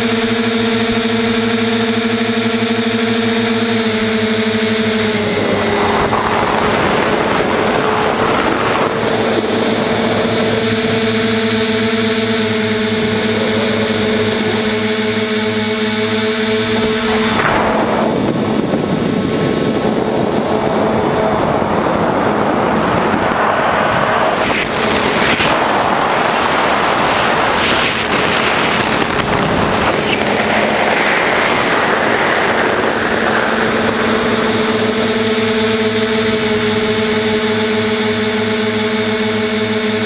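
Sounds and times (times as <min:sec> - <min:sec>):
drone motor and propeller hum: 0:00.0 - 0:40.0
wind rushing over camera: 0:00.6 - 0:37.9.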